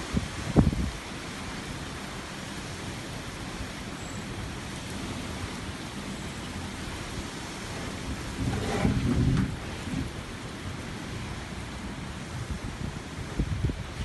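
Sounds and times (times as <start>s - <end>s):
dust storm rushing: 0.0s - 14.0s.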